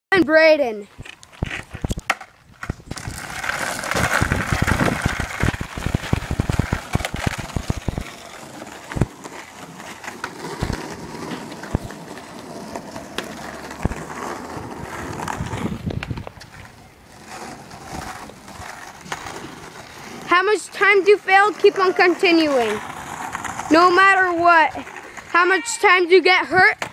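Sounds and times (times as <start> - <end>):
skateboard wheels rolling: 0.4 - 26.9.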